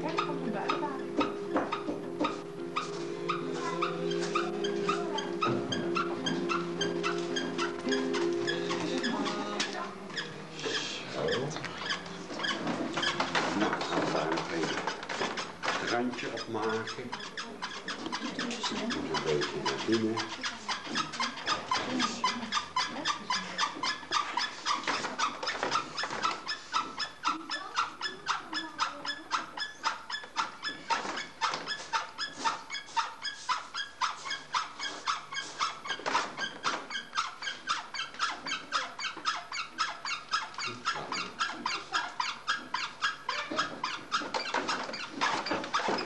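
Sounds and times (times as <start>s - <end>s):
potter's wheel squeaking: 0.0s - 46.0s.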